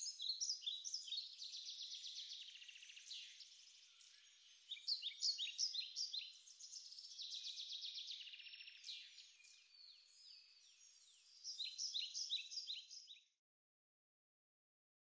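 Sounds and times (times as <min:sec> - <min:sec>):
small birds chirping and trilling: 0:00.0 - 0:13.4.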